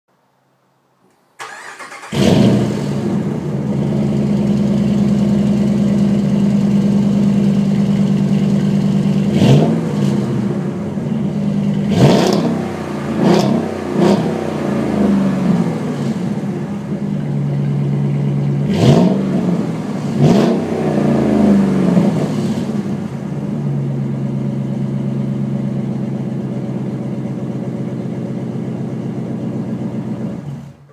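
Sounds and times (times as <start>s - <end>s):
truck engine idling and revving: 1.4s - 30.9s.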